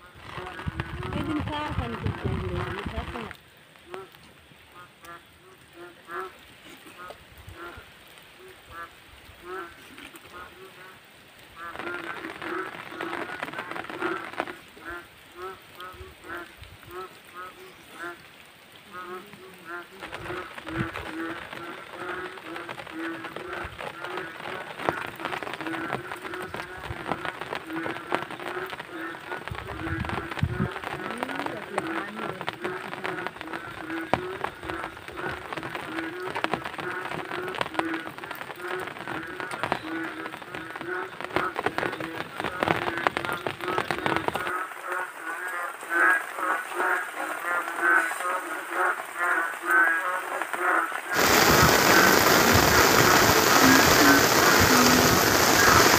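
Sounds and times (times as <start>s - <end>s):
frogs calling: 0.0s - 55.9s
rain falling on water: 0.0s - 55.9s.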